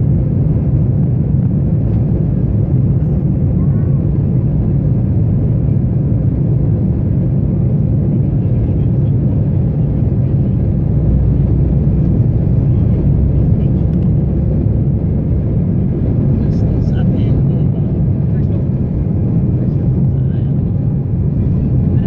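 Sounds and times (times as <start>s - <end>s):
jet engines low roar: 0.0s - 22.0s.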